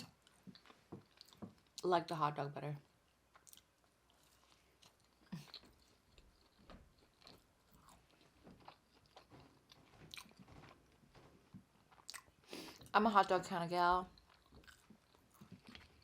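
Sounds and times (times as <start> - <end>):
person chewing food: 0.0 - 1.8, 2.9 - 12.9, 14.1 - 16.0.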